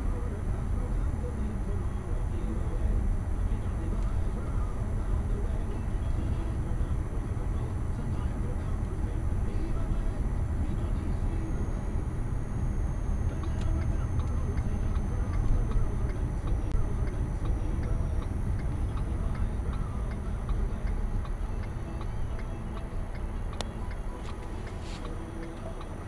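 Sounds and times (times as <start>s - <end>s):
light regular ticking: 0.0s - 26.0s
tyres and engine rumble: 0.0s - 26.0s.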